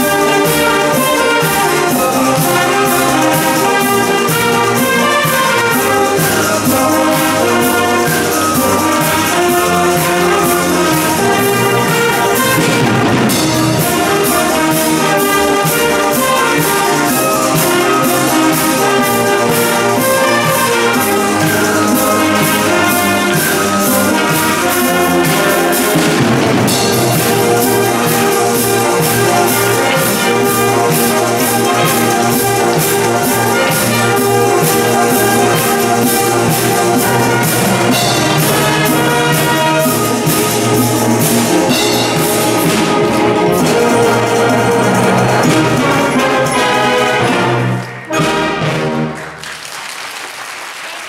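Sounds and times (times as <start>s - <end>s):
drum kit beat: 0.0s - 49.0s
trumpets and trombones: 0.0s - 49.5s
wind band playing: 0.0s - 51.0s.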